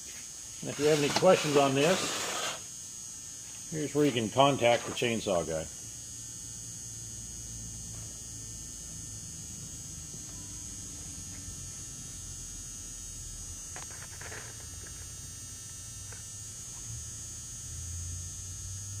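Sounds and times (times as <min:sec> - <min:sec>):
faint high whine: 0:00.0 - 0:19.0
low electrical hum: 0:00.0 - 0:19.0.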